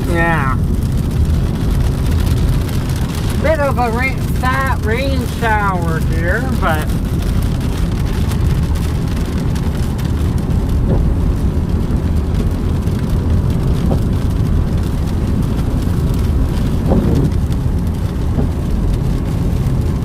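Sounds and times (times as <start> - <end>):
car road and engine rumble: 0.0 - 20.0
raindrops pattering on car: 0.0 - 20.0.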